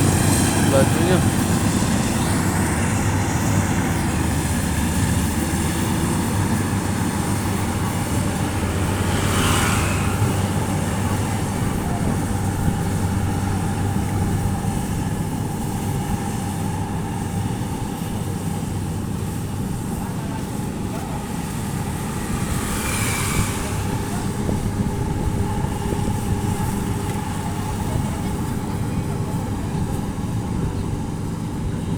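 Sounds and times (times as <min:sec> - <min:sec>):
combine harvester engine hum: 0:00.0 - 0:31.9.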